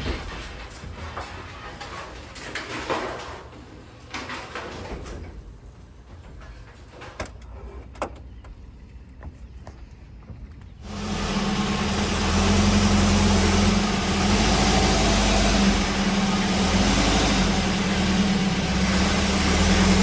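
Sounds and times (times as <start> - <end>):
tyres rolling and scraping: 0.0 - 20.0.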